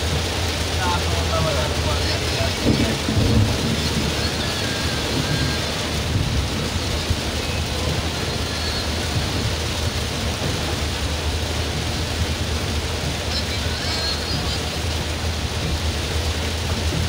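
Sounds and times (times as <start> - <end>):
heavy rain on car roof: 0.0 - 17.0
moving car rumble: 0.0 - 17.0.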